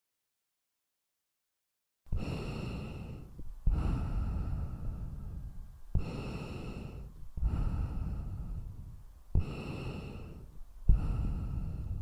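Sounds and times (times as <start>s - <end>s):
rasping breathing through oxygen mask: 2.1s - 12.0s.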